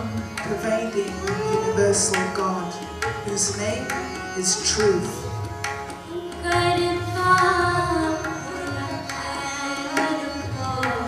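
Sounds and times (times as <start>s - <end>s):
tabla strokes: 0.0s - 11.0s.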